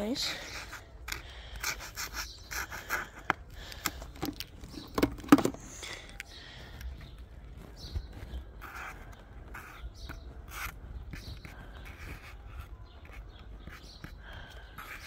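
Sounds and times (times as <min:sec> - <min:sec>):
marker scratching on plastic: 0:00.0 - 0:05.1, 0:07.0 - 0:15.0.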